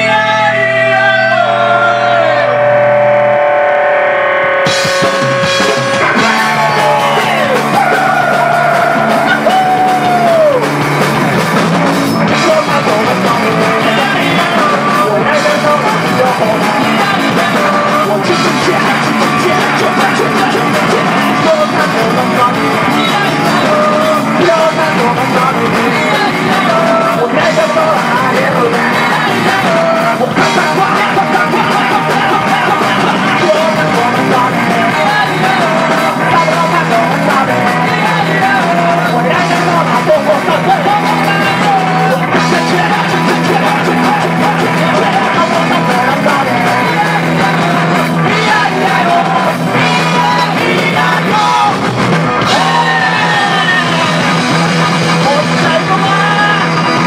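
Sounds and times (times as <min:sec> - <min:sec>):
man singing lead vocal: 0:00.0 - 0:03.3, 0:04.7 - 0:57.0
rock band playing live: 0:00.0 - 0:57.0.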